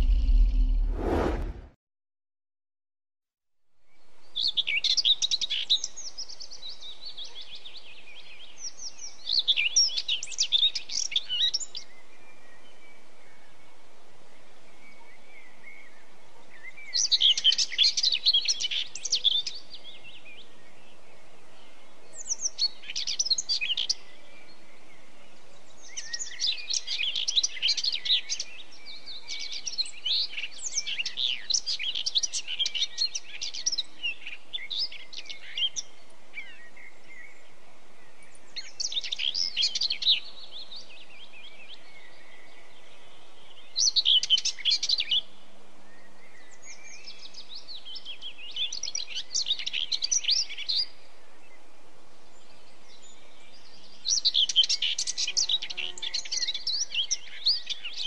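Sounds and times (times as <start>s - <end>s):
faint background hiss: 3.9s - 58.0s
songbirds twittering: 3.9s - 58.0s.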